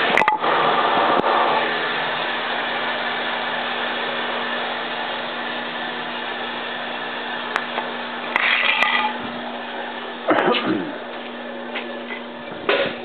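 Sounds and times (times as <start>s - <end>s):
shop machinery motor hum: 0.0s - 13.0s.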